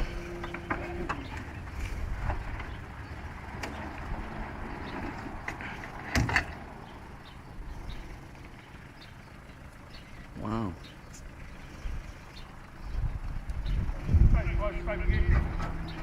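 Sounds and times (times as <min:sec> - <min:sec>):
vehicle engine running low: 0:00.0 - 0:16.0.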